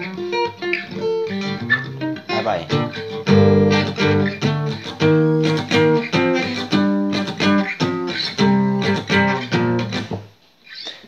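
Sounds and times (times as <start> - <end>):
acoustic guitar power chords: 0.0 - 10.3.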